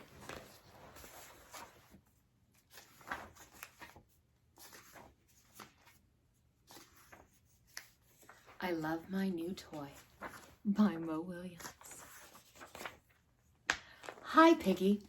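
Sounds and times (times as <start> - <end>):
picture book rustling: 0.0 - 15.0.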